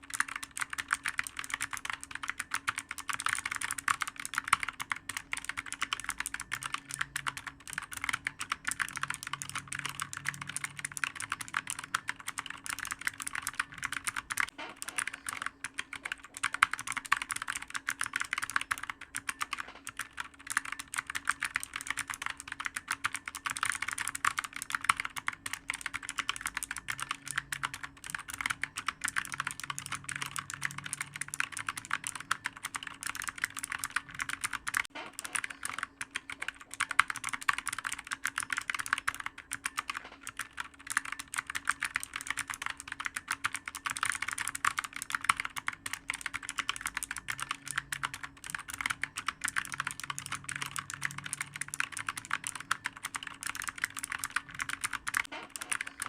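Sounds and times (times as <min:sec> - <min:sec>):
fast typing on clicky keyboard: 0:00.0 - 0:56.0.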